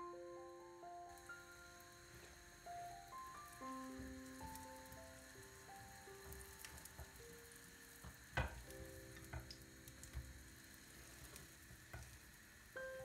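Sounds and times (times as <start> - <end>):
pancakes sizzling in oil: 0.1 - 13.0.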